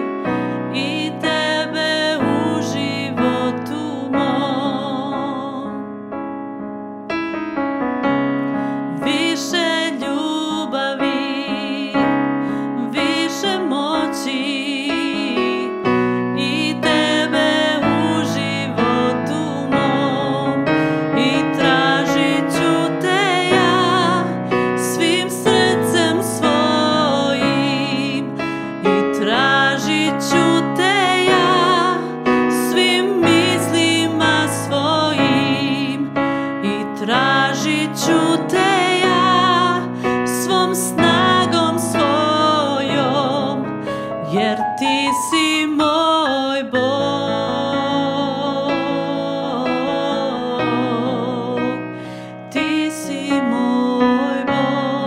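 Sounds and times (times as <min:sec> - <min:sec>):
woman singing with vibrato: 0:00.0 - 0:05.8, 0:08.9 - 0:55.0
digital piano chords: 0:00.0 - 0:55.0.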